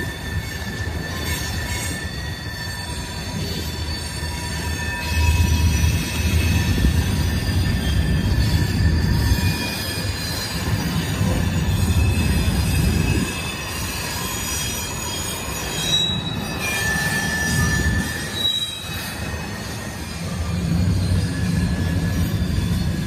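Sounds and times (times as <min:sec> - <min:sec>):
high-pitched wheel squeals: 0:00.0 - 0:23.0
train wheels rumbling on rail: 0:00.0 - 0:23.0.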